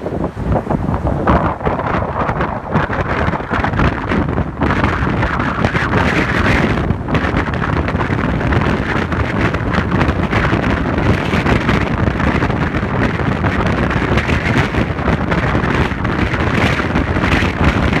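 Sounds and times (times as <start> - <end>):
vehicle road noise: 0.0 - 18.0
wind buffeting microphone: 0.0 - 18.0.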